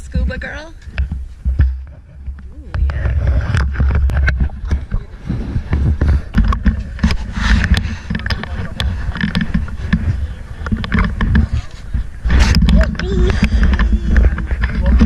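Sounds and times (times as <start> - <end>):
choppy low rumble: 0.0 - 15.0
camera handling knocks and rubbing: 0.9 - 15.0.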